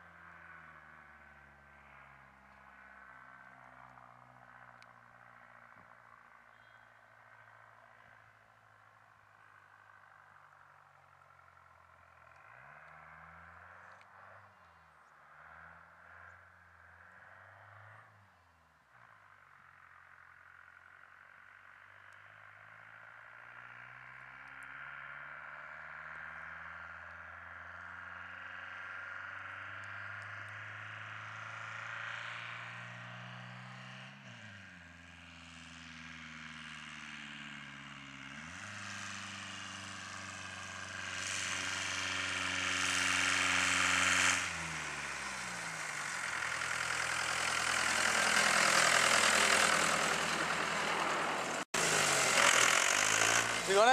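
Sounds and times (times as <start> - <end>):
diesel van engine accelerating: 0.0 - 53.9.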